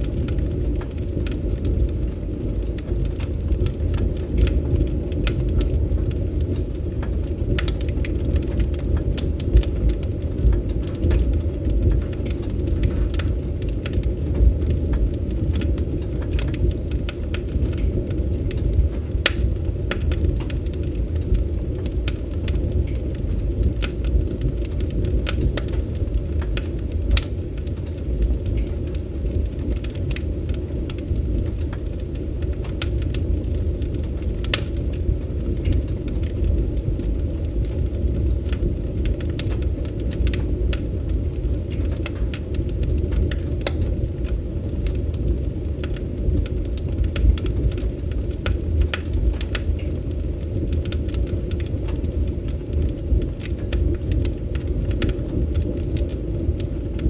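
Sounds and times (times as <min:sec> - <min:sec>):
steady low rumble: 0:00.0 - 0:57.0
wood fire crackling: 0:00.0 - 0:57.0.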